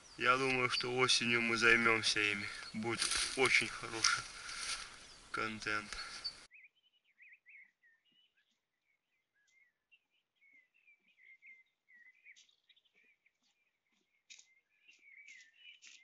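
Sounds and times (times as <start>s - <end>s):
faint twittering birdsong: 0.0s - 16.0s.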